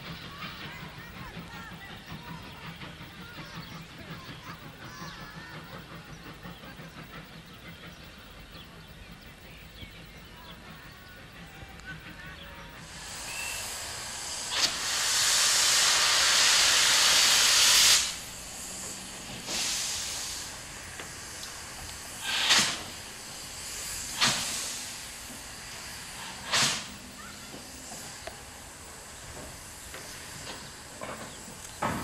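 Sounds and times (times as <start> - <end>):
locomotive exhaust chuffs: 0.0 - 32.0
steam locomotive hissing steam: 0.0 - 32.0.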